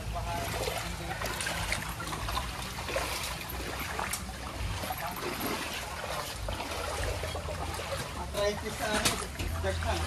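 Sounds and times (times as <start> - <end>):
feet wading through water: 0.0 - 10.0
flowing water trickle: 0.0 - 10.0.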